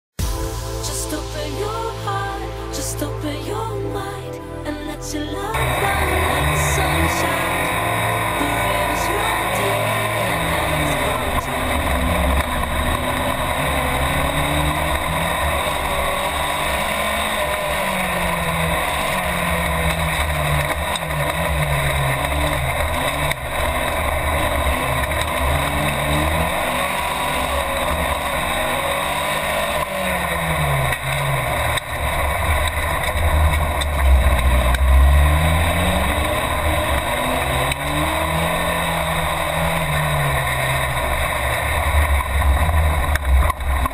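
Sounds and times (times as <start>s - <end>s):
race car engine revving: 5.5s - 43.9s
rumble and rattle inside car: 5.6s - 43.9s.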